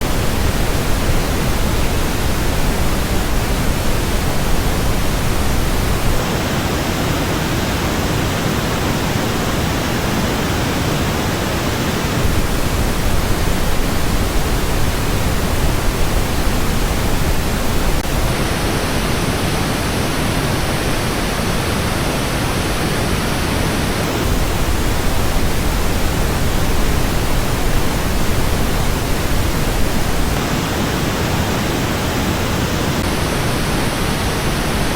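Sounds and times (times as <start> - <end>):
pink noise test signal: 0.0 - 34.9.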